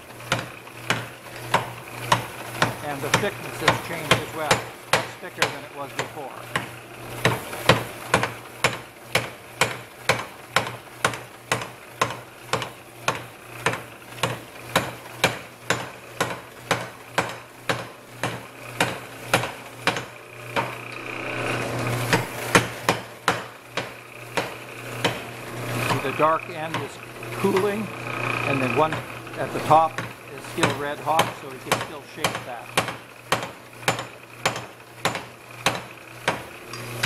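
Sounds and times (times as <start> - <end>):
steady hum: 0.0 - 9.7, 13.4 - 37.0
power hammer striking hot steel: 0.2 - 37.0.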